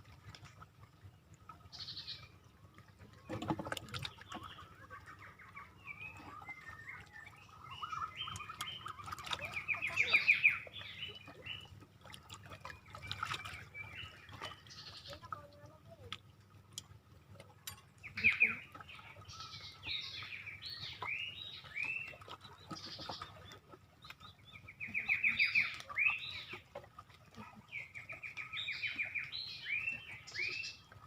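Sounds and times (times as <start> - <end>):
birds chirping and trilling: 1.7 - 2.4, 3.2 - 11.8, 12.4 - 15.4, 17.8 - 31.0.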